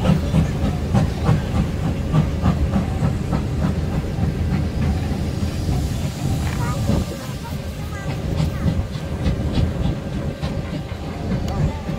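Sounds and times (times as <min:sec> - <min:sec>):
train rumble and hiss: 0:00.0 - 0:11.9
wheels clacking over rail joints: 0:00.0 - 0:11.9.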